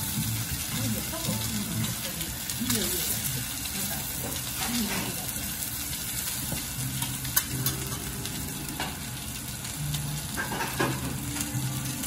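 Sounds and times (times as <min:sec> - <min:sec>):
fish and mushrooms sizzling on griddle: 0:00.0 - 0:12.0.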